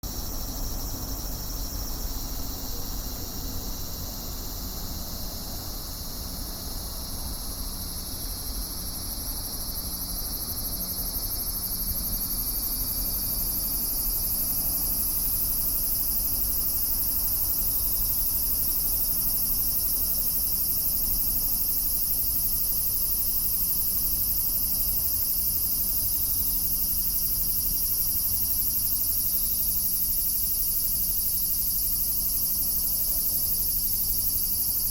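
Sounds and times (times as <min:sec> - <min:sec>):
cicadas buzzing: 0:00.1 - 0:34.9.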